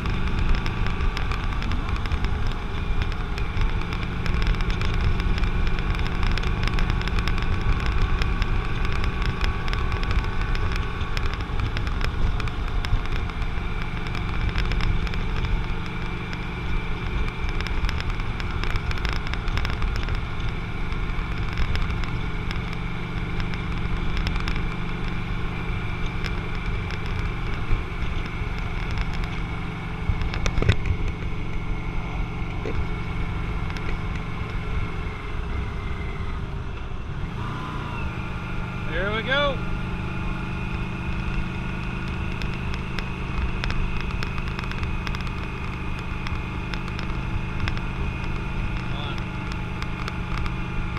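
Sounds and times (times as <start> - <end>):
motorcycle engine running: 0.0 - 50.9
wind rumble on microphone: 0.0 - 50.9.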